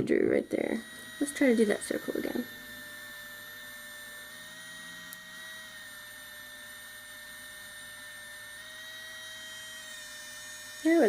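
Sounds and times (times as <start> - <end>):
small motor whining: 0.0 - 11.0.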